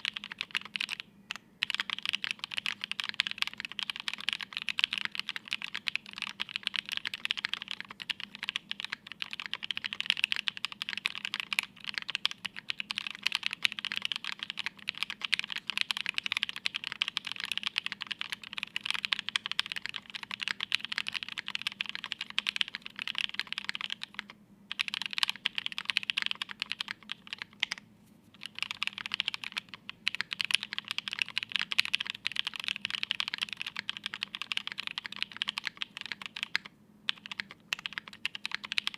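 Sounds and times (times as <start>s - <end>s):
mechanical keyboard typing: 0.0s - 27.8s, 28.4s - 38.9s.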